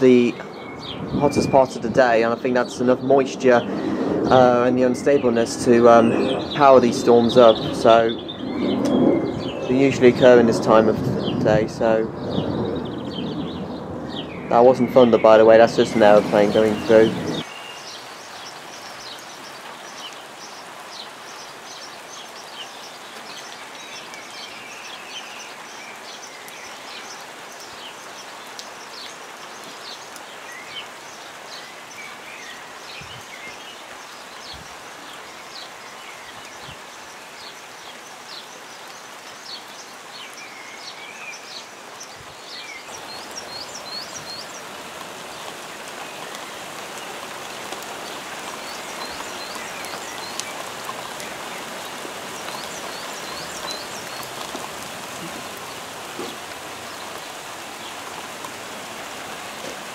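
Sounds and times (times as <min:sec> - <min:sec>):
birds singing: 0:00.0 - 0:59.9
light rain: 0:00.0 - 0:59.9.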